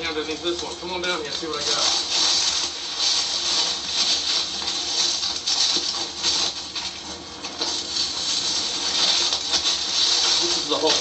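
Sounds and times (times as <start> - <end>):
footsteps through dry leaves: 0.2 - 6.6, 7.7 - 11.0.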